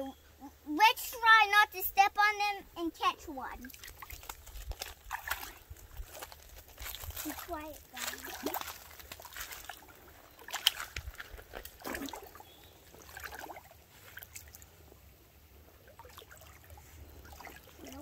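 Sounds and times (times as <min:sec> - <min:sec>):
shallow water trickling: 0:03.1 - 0:18.0
splashes of wading: 0:03.5 - 0:18.0.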